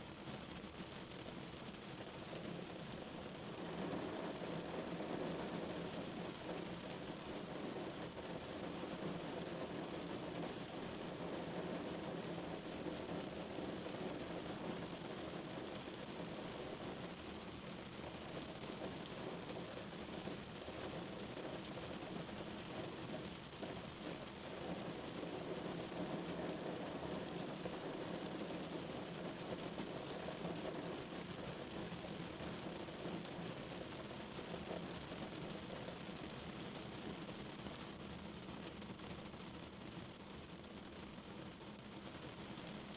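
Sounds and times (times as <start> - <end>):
rain drumming on a car roof: 0.0 - 42.9.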